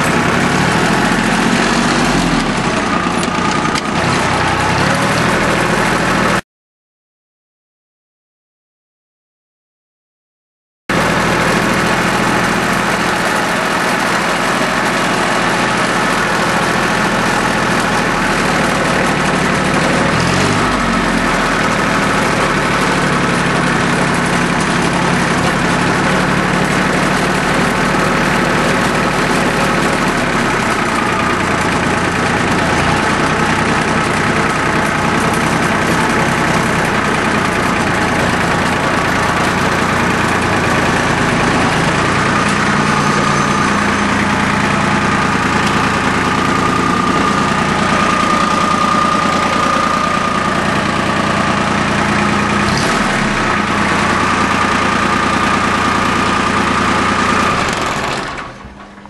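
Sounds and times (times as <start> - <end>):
tractor diesel engine running: 0.0 - 6.4, 10.9 - 59.0.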